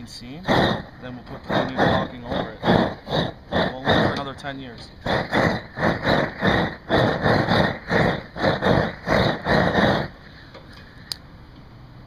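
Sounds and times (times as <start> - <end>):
torch flame surging: 0.0 - 11.2.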